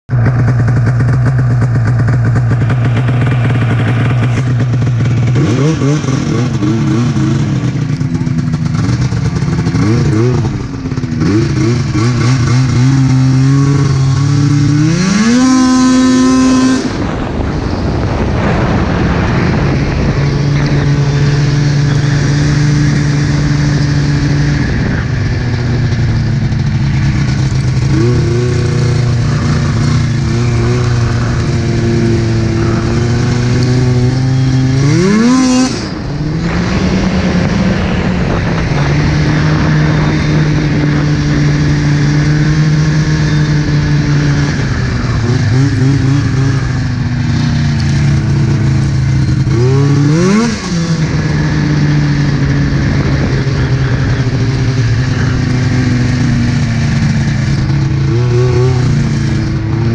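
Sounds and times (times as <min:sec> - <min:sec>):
snowmobile engine revving: 0:00.2 - 0:59.9.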